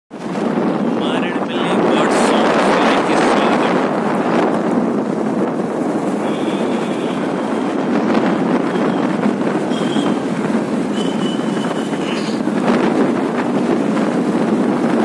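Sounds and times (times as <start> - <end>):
motorcycle running with road noise: 0.1 - 15.0
wind rushing over microphone: 0.1 - 15.0.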